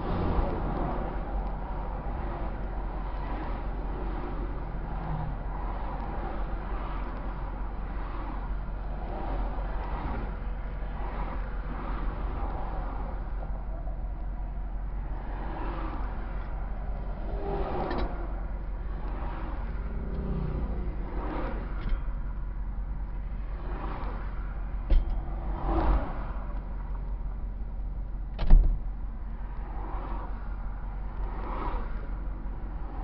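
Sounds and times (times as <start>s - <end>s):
freeway traffic whooshing past: 0.0s - 28.2s, 28.8s - 33.0s
constant low rumble: 0.0s - 33.0s.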